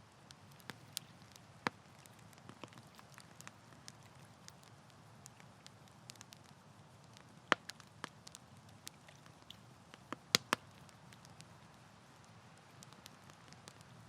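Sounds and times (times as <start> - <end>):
burning wood crackling and popping: 0.0 - 14.0
campfire flames rustling: 0.0 - 14.0.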